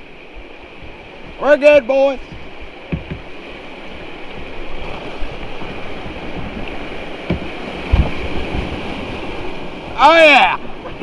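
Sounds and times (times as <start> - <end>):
kayak thumping: 0.0 - 11.0
water rushing over waterfall: 0.0 - 11.0.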